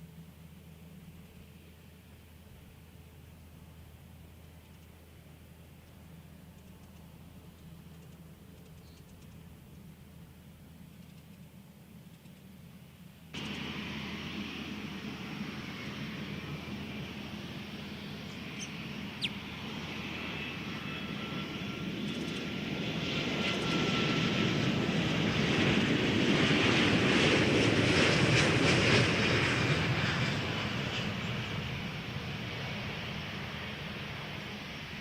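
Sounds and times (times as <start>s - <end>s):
jet airliner engines passing: 0.0s - 10.9s, 11.5s - 35.0s.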